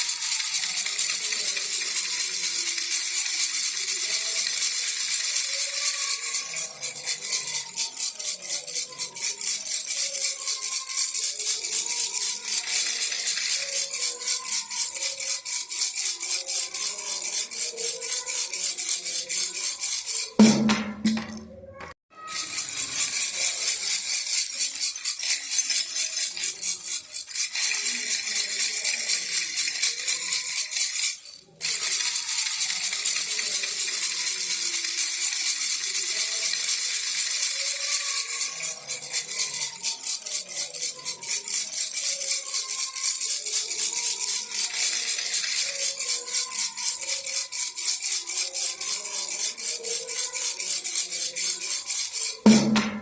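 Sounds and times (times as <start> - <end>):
baby rattle shaking: 0.0 - 53.0.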